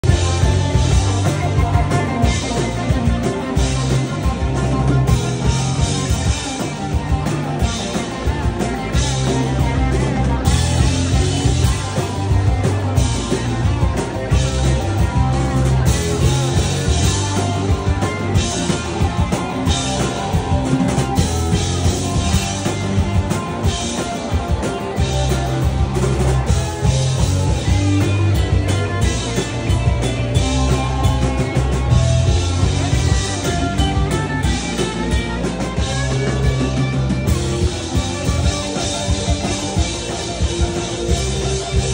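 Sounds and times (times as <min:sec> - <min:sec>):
drum kit: 0:00.0 - 0:41.9
electric bass: 0:00.0 - 0:41.9
electric guitars: 0:00.0 - 0:41.9.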